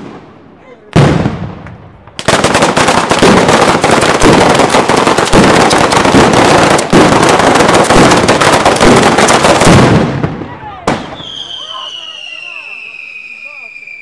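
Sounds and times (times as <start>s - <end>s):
firecrackers cracking and banging: 0.9s - 13.2s.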